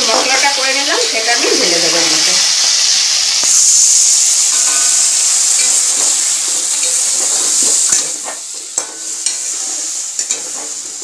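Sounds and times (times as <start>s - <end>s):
spice paste sizzling in oil: 0.0s - 11.0s.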